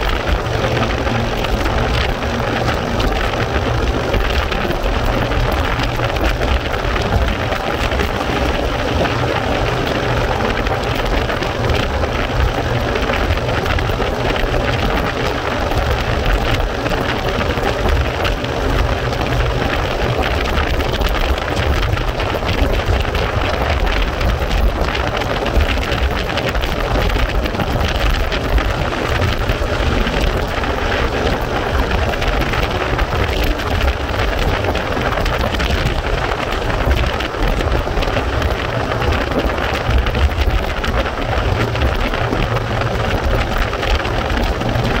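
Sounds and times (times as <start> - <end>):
road noise rumble: 0.0 - 45.0
wind buffeting microphone: 0.0 - 45.0.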